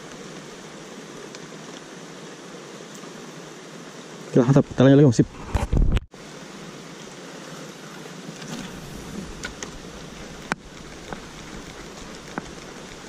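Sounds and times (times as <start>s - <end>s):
light rain on stream: 0.0s - 5.1s, 6.0s - 13.0s.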